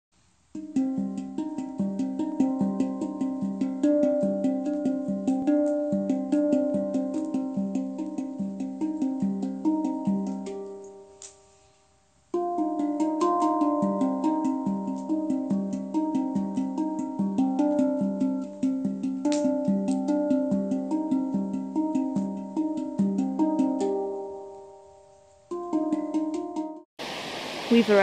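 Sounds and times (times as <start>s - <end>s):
instrumental background music: 0.5s - 11.8s, 12.4s - 26.9s.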